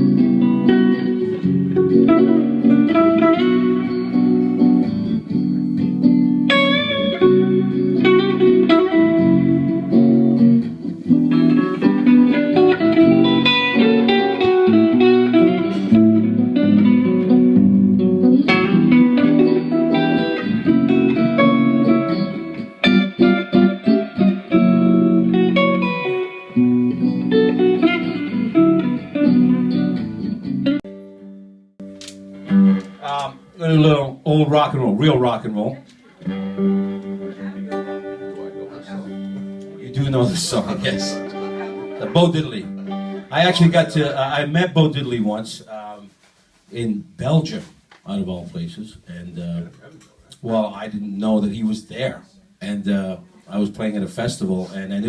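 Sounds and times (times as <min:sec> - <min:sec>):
rock and roll guitar playing: 0:00.0 - 0:45.4.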